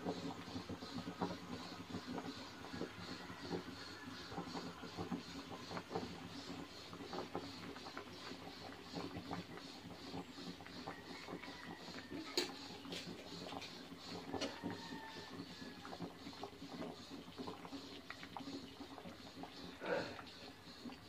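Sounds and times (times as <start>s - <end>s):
water boiling with small pops: 0.0s - 21.0s.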